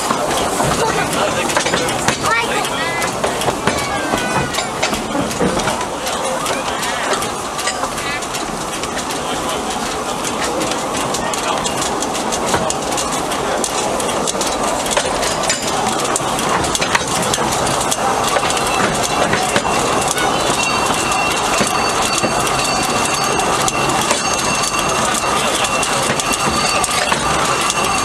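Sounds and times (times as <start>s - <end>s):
train wheels clattering on track: 0.0s - 28.0s.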